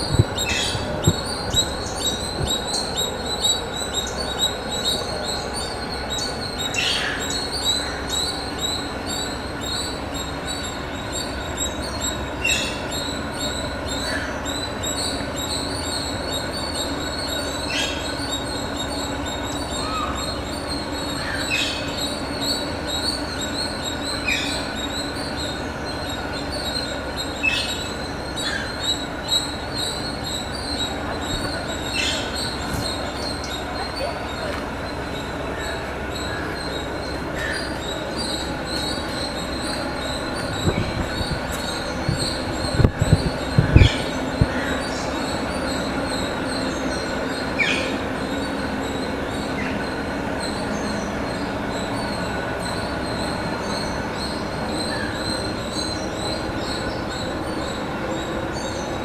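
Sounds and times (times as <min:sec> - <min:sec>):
bird chirps: 0:00.0 - 0:59.0
insect chorus drone: 0:00.0 - 0:59.0.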